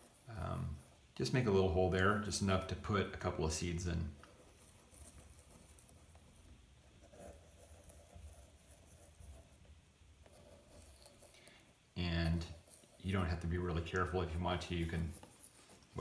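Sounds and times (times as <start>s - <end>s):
skewer scratching and tapping: 0.0s - 16.0s.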